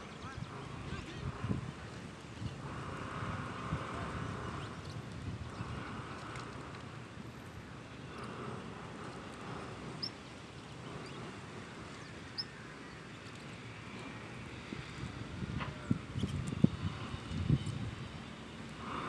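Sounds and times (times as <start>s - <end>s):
birds calling faintly: 0.0s - 19.0s.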